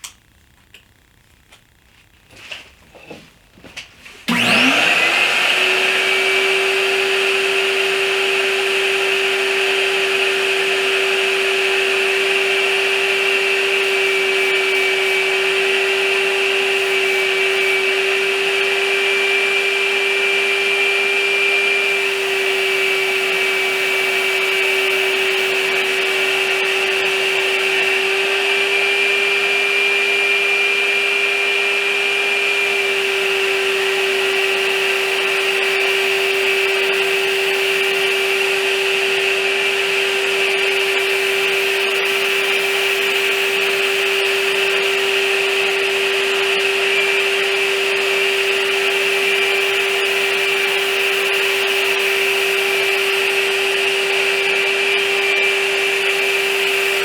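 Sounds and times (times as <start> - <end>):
electric blower motor whining: 4.2 - 57.0.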